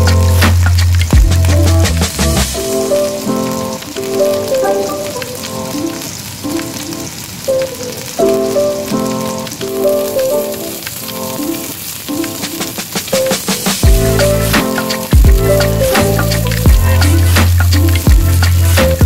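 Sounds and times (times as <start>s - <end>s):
background music sustained notes: 0.0s - 19.0s
fish sizzling in hot oil: 0.0s - 19.0s.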